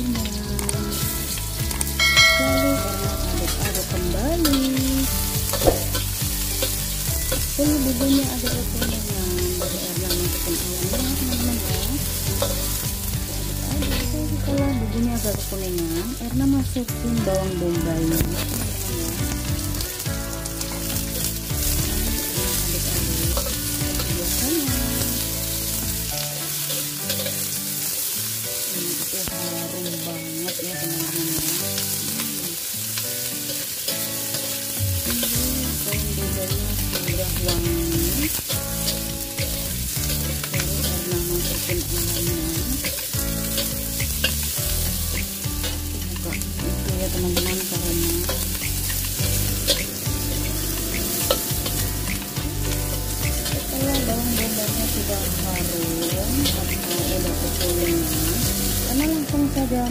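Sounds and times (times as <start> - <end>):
vegetables sizzling in hot oil: 0.0 - 59.9
metal spatula scraping wok: 1.2 - 14.3, 18.1 - 31.2, 32.8 - 59.2.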